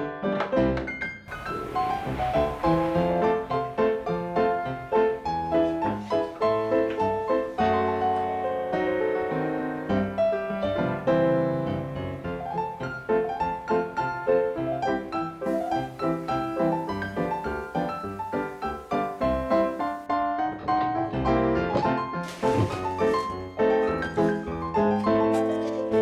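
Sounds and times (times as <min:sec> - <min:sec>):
piano melody with chords: 0:00.0 - 0:26.0.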